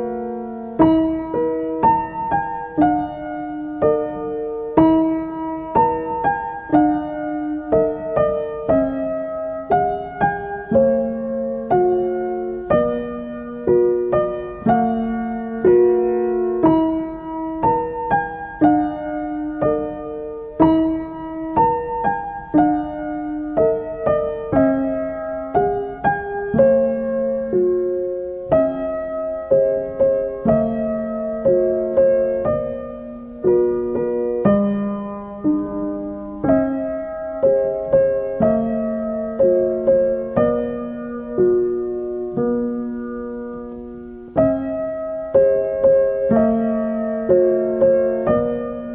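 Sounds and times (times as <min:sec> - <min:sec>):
gentle piano melody: 0:00.0 - 0:48.9.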